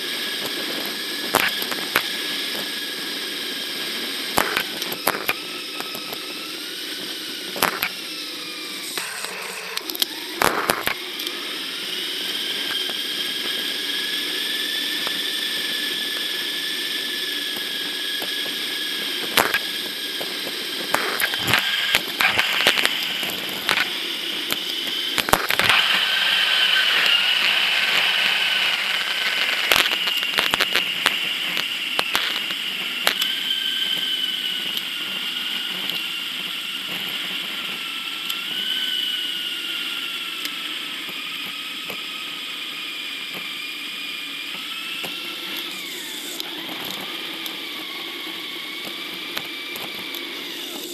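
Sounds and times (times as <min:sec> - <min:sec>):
sped-up mechanical whine: 0:00.0 - 0:50.9.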